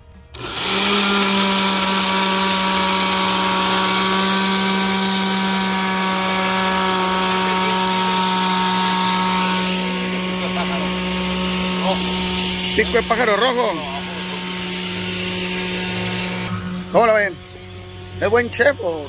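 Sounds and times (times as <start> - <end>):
kitchen blender whirring: 0.0 - 19.0.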